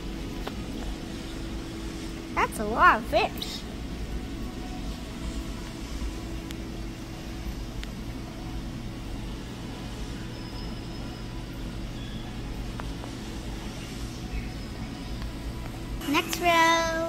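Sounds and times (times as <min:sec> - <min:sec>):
machinery hum and rumble: 0:00.0 - 0:17.0.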